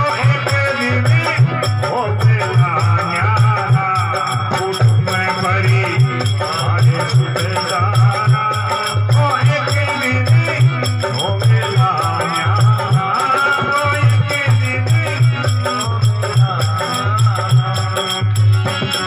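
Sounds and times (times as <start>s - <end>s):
harmonium: 0.0s - 19.0s
man singing: 0.0s - 19.0s
rattling hand percussion: 0.0s - 19.0s.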